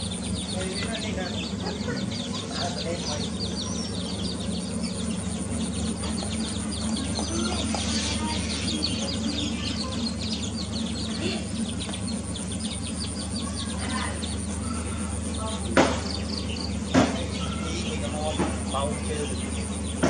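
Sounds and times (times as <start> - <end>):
chicks peeping: 0.0 - 20.0
steady low hum: 0.0 - 20.0.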